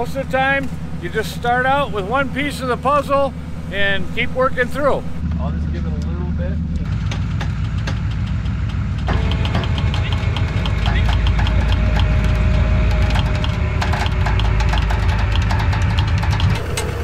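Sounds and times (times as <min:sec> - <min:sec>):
regular ticking: 0:00.0 - 0:17.0
truck engine running: 0:00.0 - 0:17.0.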